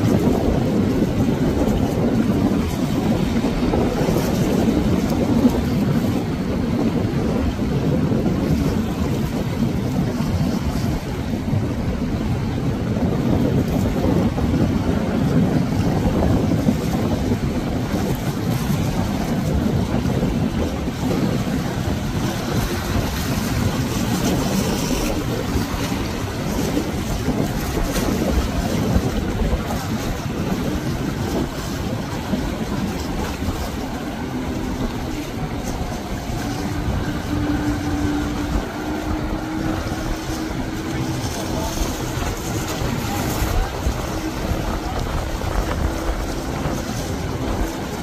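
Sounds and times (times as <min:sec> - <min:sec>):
choppy surf: 0:00.0 - 0:48.0
outboard motor running: 0:00.0 - 0:48.0
wind rumbling on microphone: 0:00.0 - 0:48.0.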